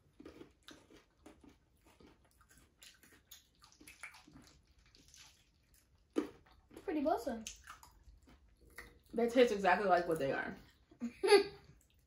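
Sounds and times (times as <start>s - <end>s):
people chewing candy: 0.0s - 12.0s.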